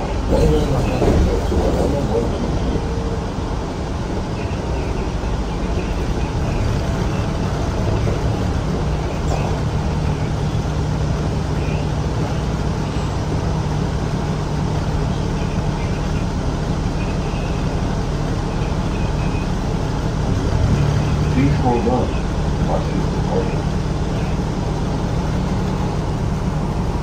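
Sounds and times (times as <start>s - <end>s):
bus engine hum: 0.0s - 27.0s
road noise: 0.0s - 27.0s.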